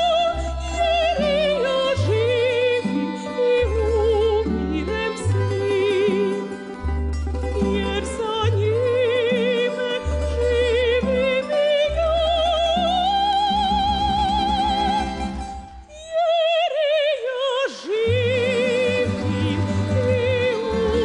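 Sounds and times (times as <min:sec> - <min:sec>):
operatic soprano singing: 0:00.0 - 0:06.7, 0:07.5 - 0:21.0
double bass: 0:00.0 - 0:15.9, 0:18.0 - 0:21.0
tremolo-strummed string band: 0:00.0 - 0:16.0, 0:17.7 - 0:21.0.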